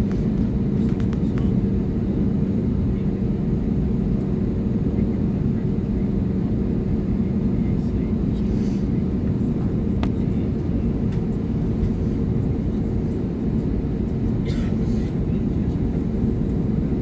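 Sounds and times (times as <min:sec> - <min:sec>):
airplane engines droning in cabin: 0:00.0 - 0:17.0.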